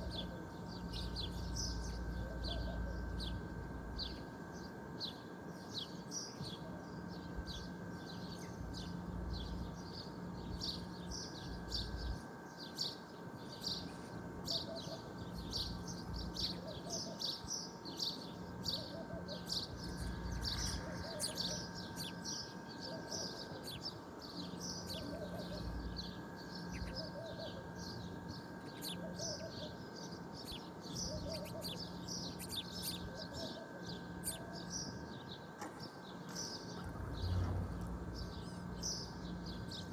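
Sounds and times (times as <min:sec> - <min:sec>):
faint steady hum: 0:00.0 - 0:39.9
small birds chirping and twittering: 0:00.0 - 0:39.9.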